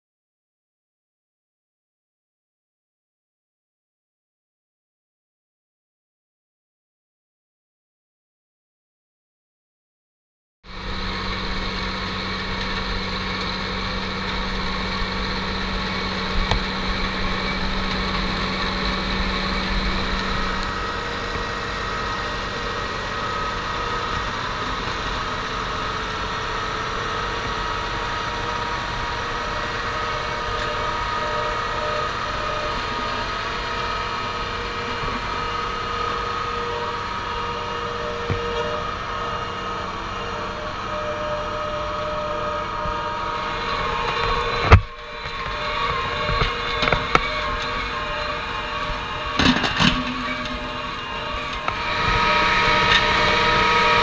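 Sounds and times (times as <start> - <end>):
cutter wheel throwing soil: 10.7 - 54.0
high mechanical whine: 10.7 - 54.0
tractor diesel engine under load: 10.7 - 54.0.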